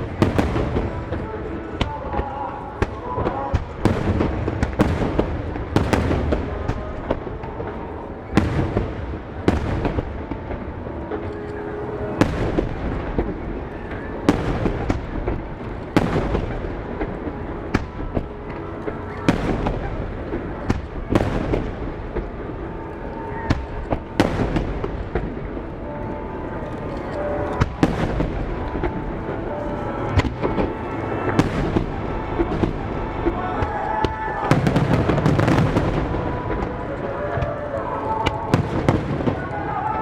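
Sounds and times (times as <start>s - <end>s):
music soundtrack: 6.5s - 40.0s.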